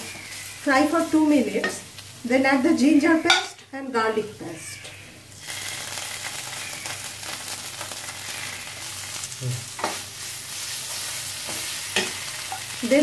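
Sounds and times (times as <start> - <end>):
paste sizzling in hot oil: 0.0 - 3.2, 5.3 - 13.0.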